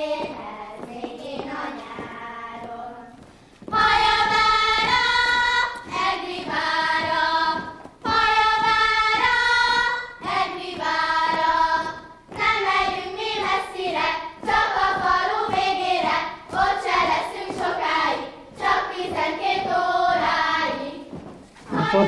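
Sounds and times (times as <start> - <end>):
children singing folk song: 0.0 - 22.0.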